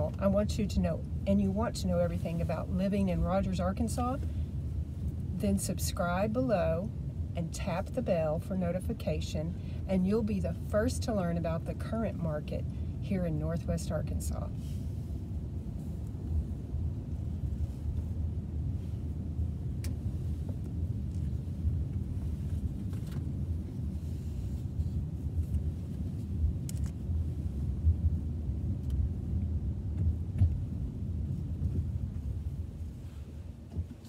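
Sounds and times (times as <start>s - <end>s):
car driving rumble: 0.0s - 34.0s.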